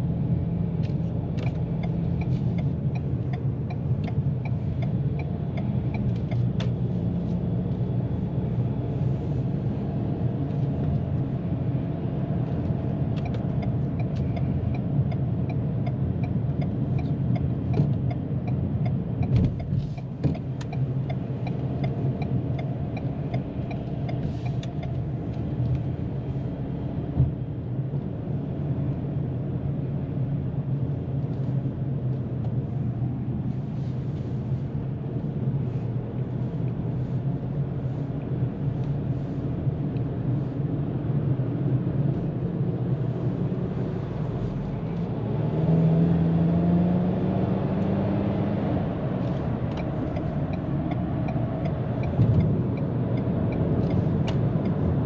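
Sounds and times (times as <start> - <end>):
truck driving at highway speed: 0.0 - 55.0.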